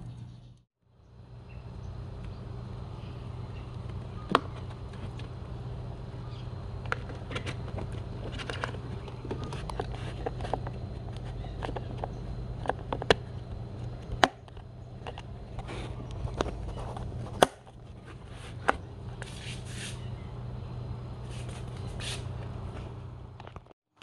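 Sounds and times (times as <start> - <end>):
steady low hum: 0.0 - 23.7.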